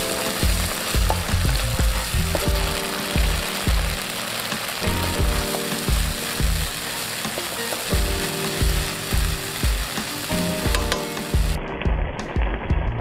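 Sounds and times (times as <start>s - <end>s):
vegetables sizzling in hot oil: 0.0s - 12.9s
background music with beat: 0.0s - 13.0s.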